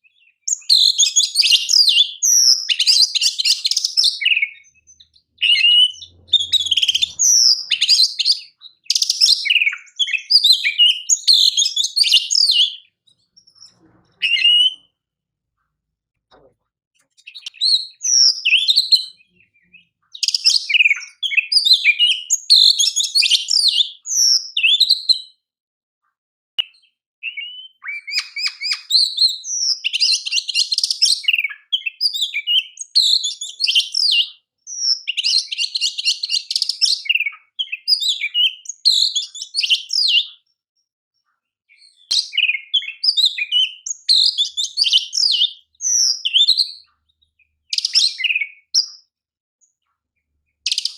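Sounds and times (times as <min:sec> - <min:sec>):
bird singing whistled phrases: 0:00.0 - 0:14.9, 0:17.2 - 0:25.4, 0:26.6 - 0:40.4, 0:41.7 - 0:49.0, 0:50.6 - 0:50.9.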